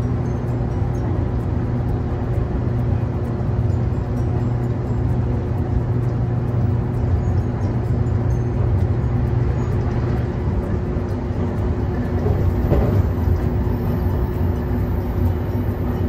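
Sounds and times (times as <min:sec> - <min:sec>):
constant train hum: 0:00.0 - 0:16.0
train wheels rumbling on rails: 0:00.0 - 0:16.0.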